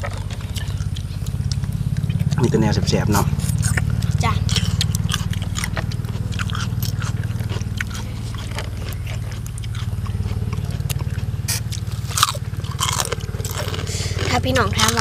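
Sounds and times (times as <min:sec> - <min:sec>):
people chewing and crunching food: 0:00.0 - 0:15.0
steady low rumble: 0:00.0 - 0:15.0.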